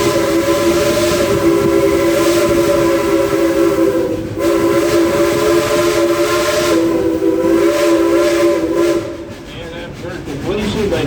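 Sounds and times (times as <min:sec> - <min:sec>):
steam locomotive whistle: 0:00.0 - 0:09.5.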